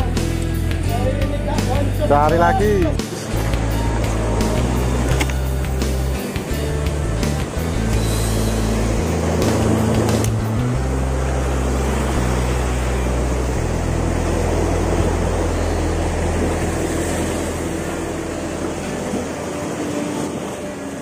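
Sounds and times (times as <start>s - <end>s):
background music with low bass notes: 0.0s - 21.0s
surf breaking on rocks: 1.7s - 21.0s.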